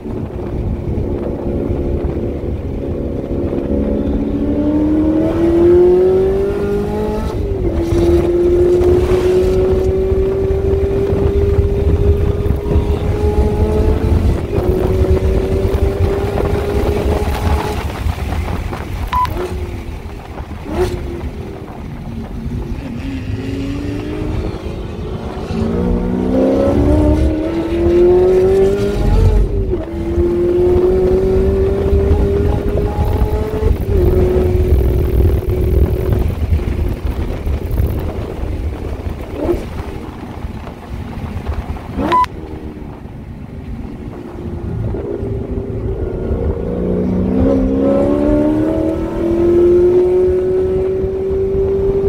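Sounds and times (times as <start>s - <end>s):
wind noise: 0.0s - 52.0s
car engine accelerating: 0.1s - 43.0s, 44.2s - 52.0s.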